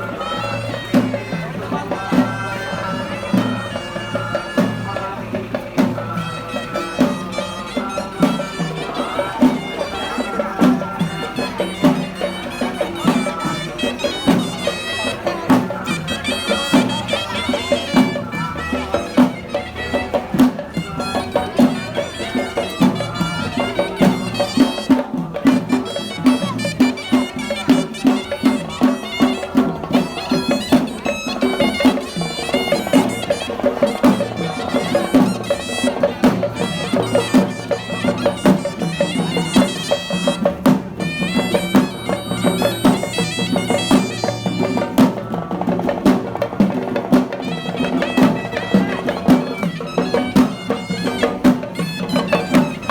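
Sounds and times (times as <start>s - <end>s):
steady drum beat: 0.0s - 52.9s
shrill reedy wind instrument melody: 6.2s - 45.4s, 46.1s - 52.9s.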